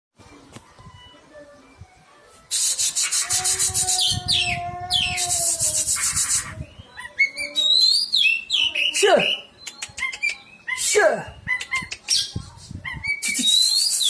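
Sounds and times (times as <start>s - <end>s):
bird singing rasping chatter: 2.5s - 14.0s.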